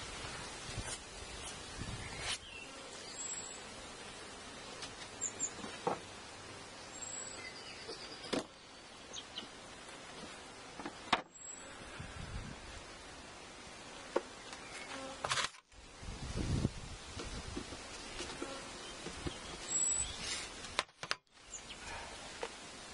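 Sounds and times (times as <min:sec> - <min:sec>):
steady background hiss: 0:00.0 - 0:22.9.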